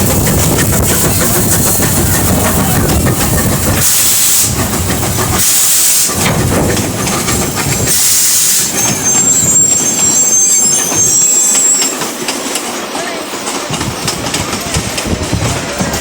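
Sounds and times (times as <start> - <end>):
steam locomotive exhaust hissing: 0.0 - 16.0
wheels squealing on rails: 0.0 - 16.0.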